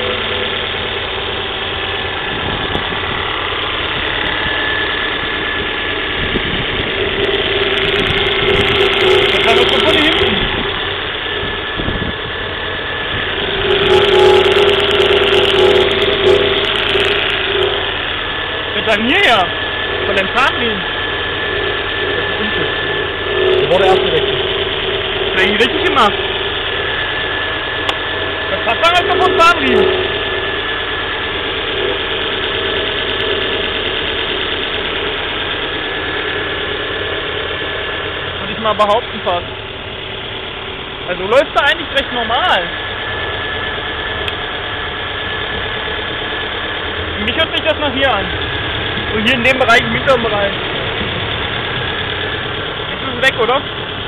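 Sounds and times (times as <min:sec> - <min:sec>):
humming tone: 0:00.0 - 0:53.0
car engine idling: 0:00.0 - 0:54.0.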